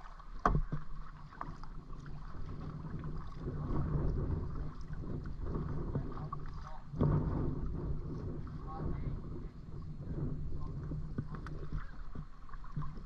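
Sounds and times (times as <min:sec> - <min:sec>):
paddle splashing water: 0:00.0 - 0:13.0
wind rumble on microphone: 0:00.0 - 0:13.0.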